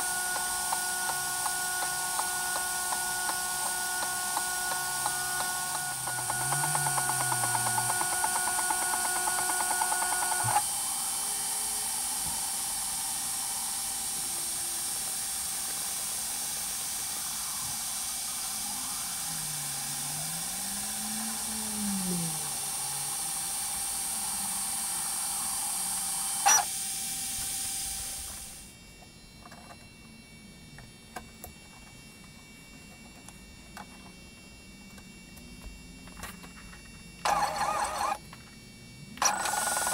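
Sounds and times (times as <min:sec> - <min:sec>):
stepper motors whining: 0:00.0 - 0:30.4, 0:35.6 - 0:39.9.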